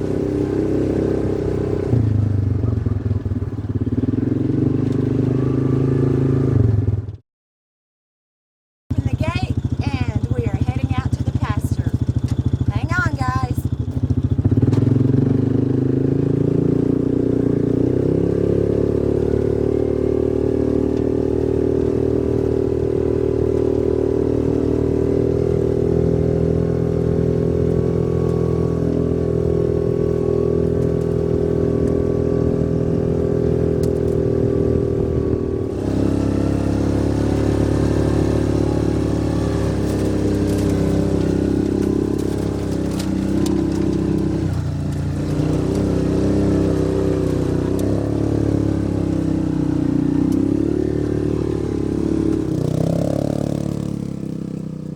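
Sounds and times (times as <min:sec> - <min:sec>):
utility vehicle engine running: 0:00.0 - 0:07.2, 0:08.9 - 0:54.9.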